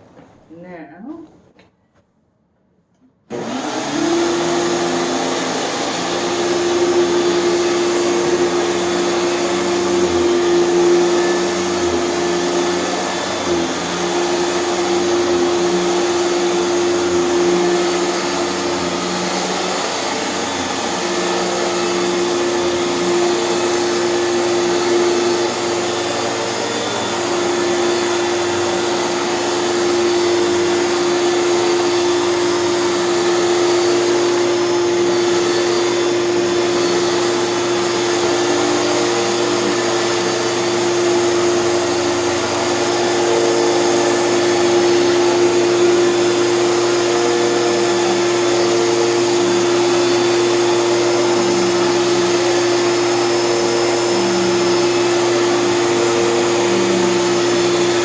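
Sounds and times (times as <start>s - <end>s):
vacuum cleaner running: 3.3s - 58.0s.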